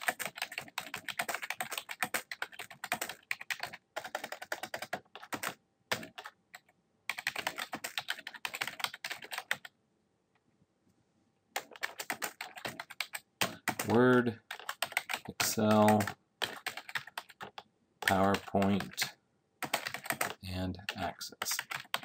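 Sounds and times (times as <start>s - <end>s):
fast typing on computer keyboard: 0.0s - 9.7s, 11.6s - 22.0s.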